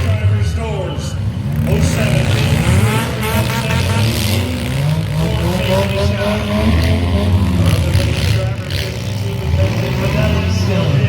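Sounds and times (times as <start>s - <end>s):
car engines running loudly: 0.0s - 11.0s
voices: 0.0s - 11.0s.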